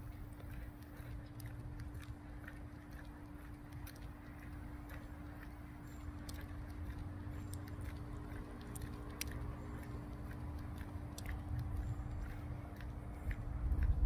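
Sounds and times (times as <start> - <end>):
faint hum: 0.0 - 14.0
low rumble: 0.0 - 14.0
faint clicks: 0.3 - 14.0.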